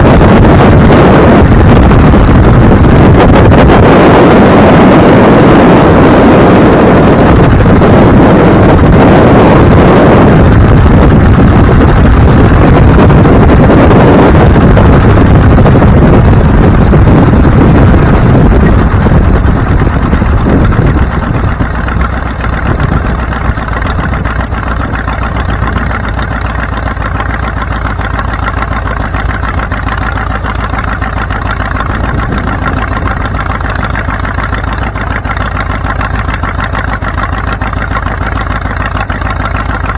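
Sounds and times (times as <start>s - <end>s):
engine idling: 0.0s - 39.9s
wind and road noise: 0.0s - 39.9s.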